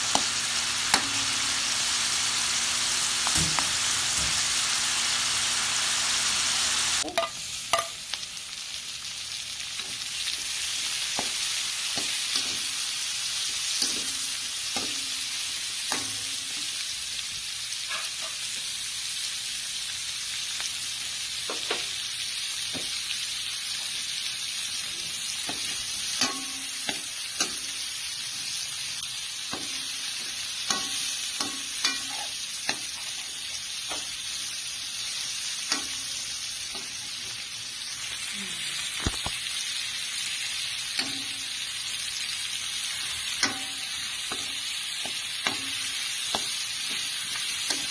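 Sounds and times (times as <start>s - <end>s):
food sizzling in a wok: 0.0s - 47.9s.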